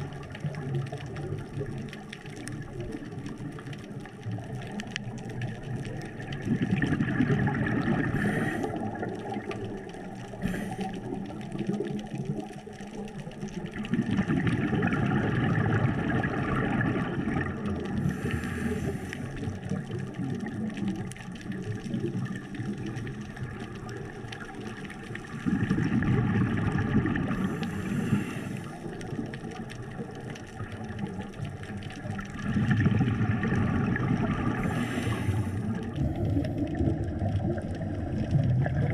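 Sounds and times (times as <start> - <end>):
bubbles rumbling underwater: 0.0 - 38.9.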